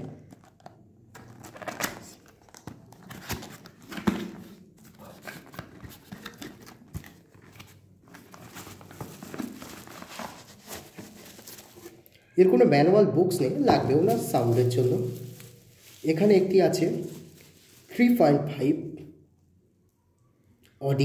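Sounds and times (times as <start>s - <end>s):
cardboard and bubble wrap rustling: 0.0s - 12.1s, 13.3s - 18.3s.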